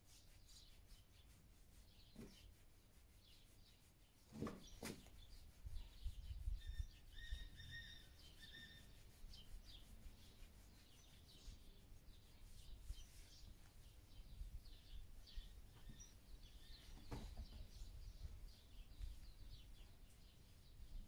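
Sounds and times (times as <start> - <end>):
faint small birds chirping: 0.0 - 21.0.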